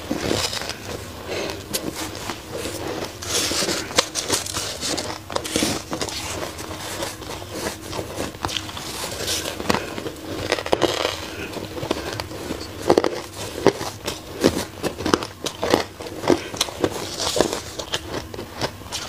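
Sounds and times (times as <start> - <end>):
crunching shaved ice: 0.0 - 19.0.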